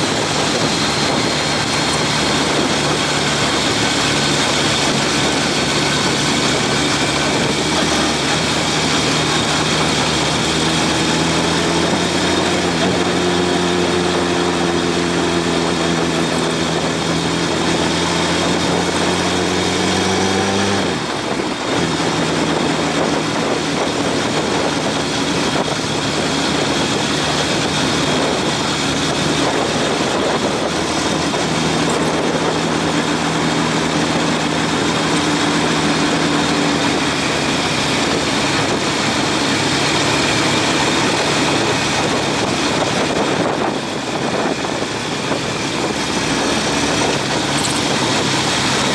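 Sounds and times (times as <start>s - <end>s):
motorcycle engine running: 0.0s - 48.9s
wind noise rushing: 0.0s - 48.9s.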